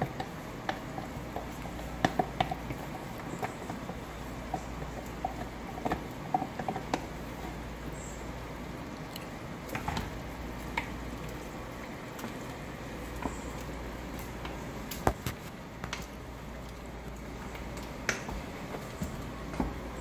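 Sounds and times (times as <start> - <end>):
steady low hum: 0.0 - 20.0
wooden spoon stirring soup: 0.1 - 20.0.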